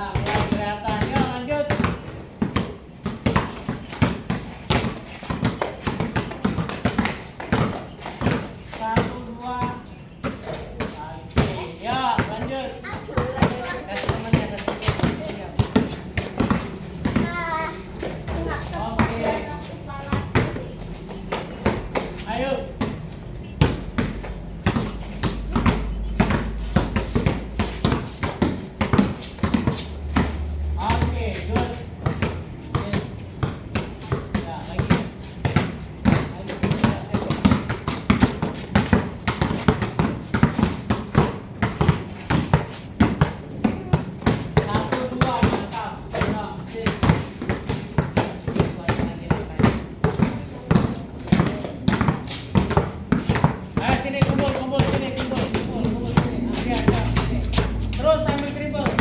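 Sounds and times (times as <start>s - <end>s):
basketballs bouncing on court: 0.0s - 59.0s.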